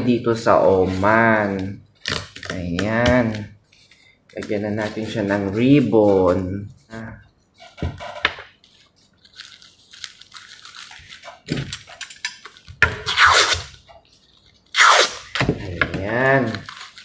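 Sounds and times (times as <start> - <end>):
wrapping paper rustling and crinkling: 0.2 - 12.8, 13.7 - 17.0.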